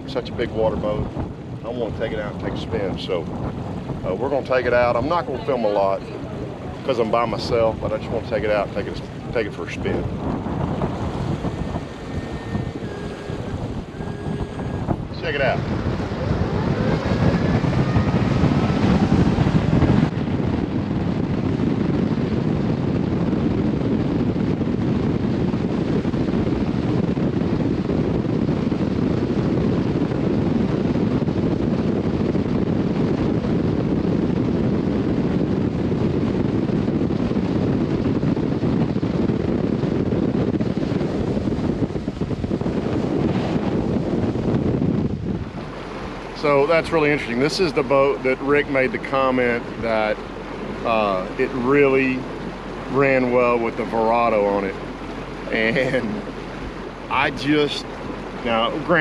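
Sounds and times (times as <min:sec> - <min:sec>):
water rushing along boat hull: 0:00.0 - 0:59.0
wind on microphone: 0:00.0 - 0:59.0.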